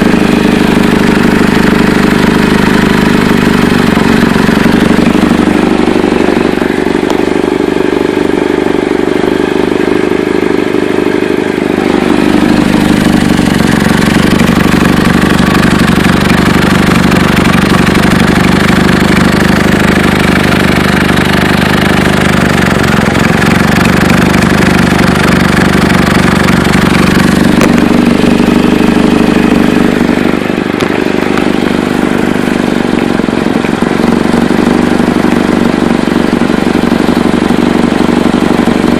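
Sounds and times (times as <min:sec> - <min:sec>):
car engine with exhaust leak: 0:00.0 - 0:38.9.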